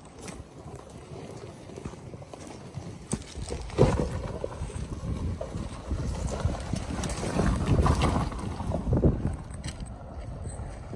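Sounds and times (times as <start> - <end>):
tyres crunching over stones: 0.0 - 10.9.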